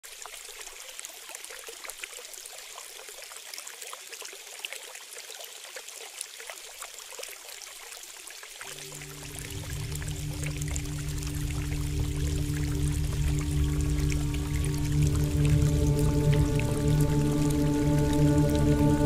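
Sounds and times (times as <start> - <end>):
water trickling and bubbling: 0.0 - 19.0.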